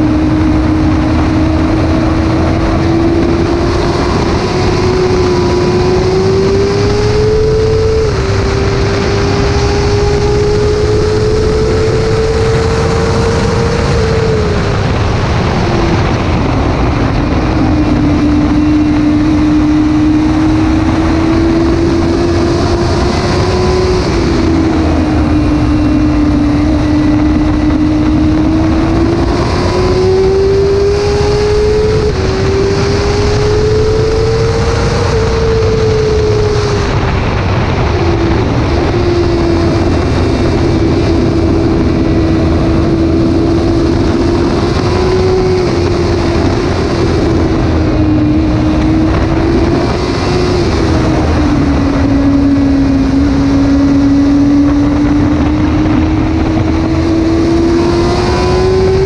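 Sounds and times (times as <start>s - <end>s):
motorcycle engine revving: 0.0s - 59.0s
wind rush: 0.0s - 59.0s.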